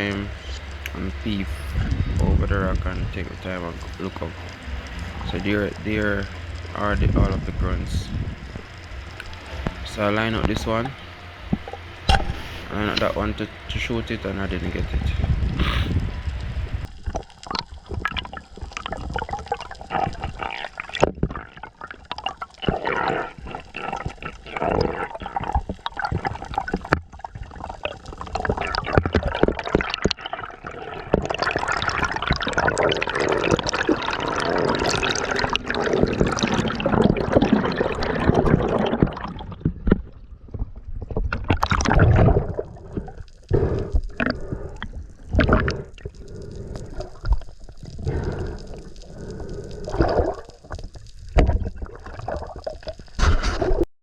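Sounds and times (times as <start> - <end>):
water splashing and gurgling: 0.0 - 53.8.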